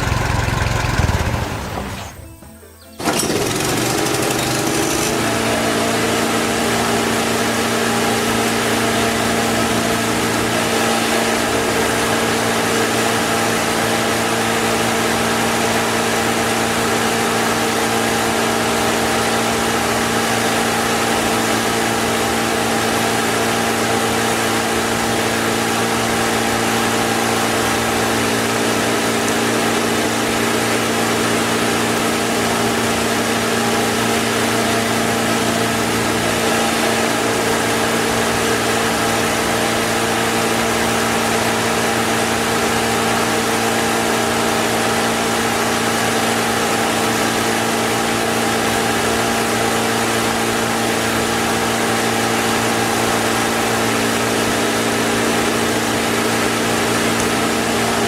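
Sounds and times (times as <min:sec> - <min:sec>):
small engine running: 0:00.0 - 0:02.3, 0:02.9 - 0:58.0.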